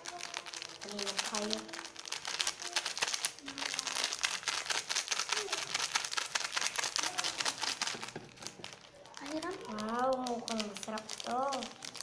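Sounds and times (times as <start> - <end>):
plastic sachets crinkling: 0.0 - 12.0.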